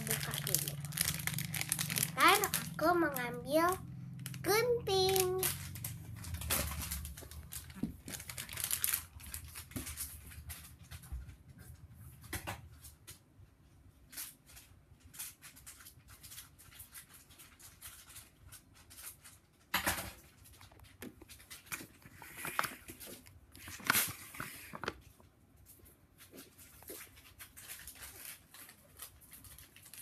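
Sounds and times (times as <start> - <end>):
plastic sachet crinkling: 0.0 - 10.8, 14.1 - 19.6, 20.3 - 25.2, 26.3 - 30.0.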